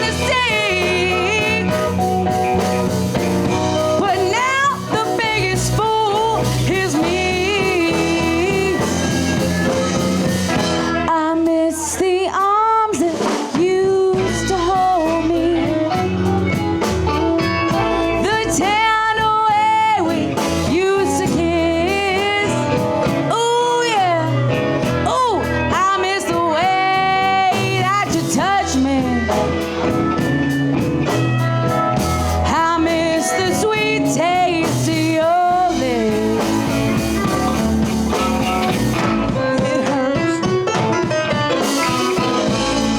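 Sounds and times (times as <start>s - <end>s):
lead guitar bending long notes: 0.0s - 11.6s, 14.0s - 42.9s
live blues band playing: 0.0s - 42.9s.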